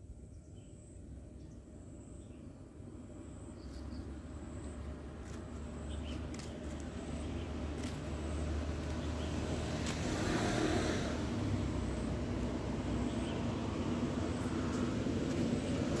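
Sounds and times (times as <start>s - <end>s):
passing traffic hum: 0.9s - 16.0s.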